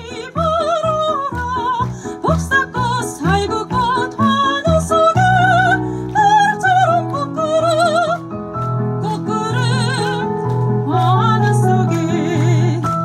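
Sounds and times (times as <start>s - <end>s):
woman singing operatic: 0.0s - 8.2s, 9.0s - 10.3s, 10.9s - 13.0s.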